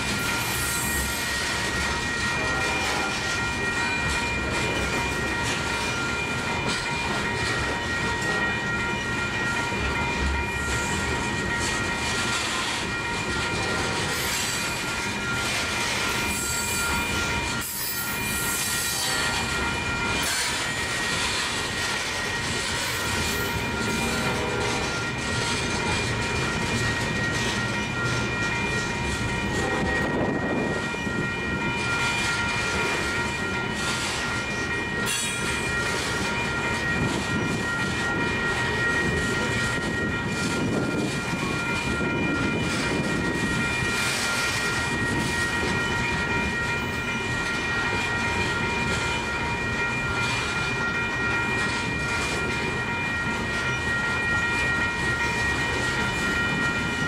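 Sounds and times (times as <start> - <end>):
freight train wheels clattering: 0.0 - 57.0
steady high ringing tone: 0.0 - 57.0.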